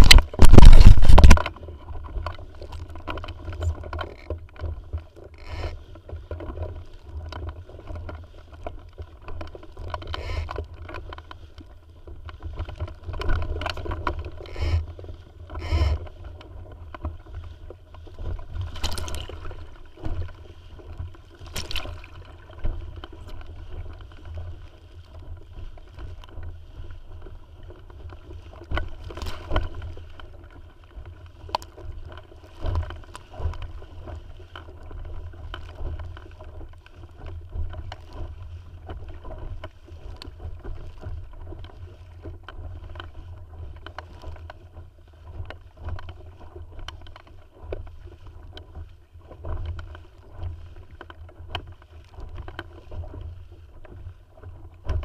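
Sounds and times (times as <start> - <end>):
water splashing against hull: 0.0 - 55.0
wind rumble on microphone: 0.0 - 55.0.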